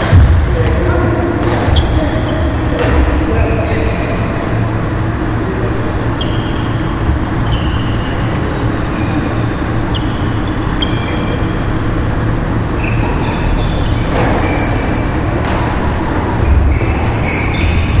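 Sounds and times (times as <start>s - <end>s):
sneakers squeaking on wooden floor: 0.0s - 4.3s, 6.0s - 18.0s.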